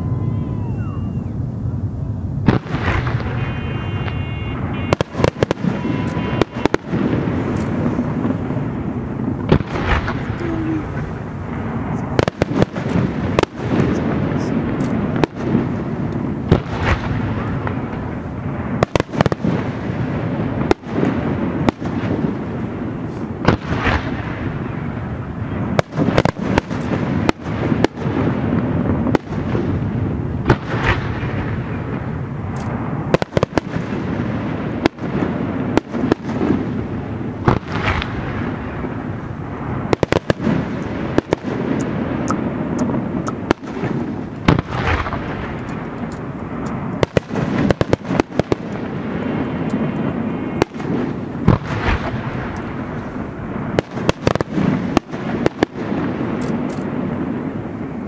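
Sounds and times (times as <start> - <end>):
continuous low rumble: 0.0 - 58.0
fireworks bursting: 0.0 - 58.0.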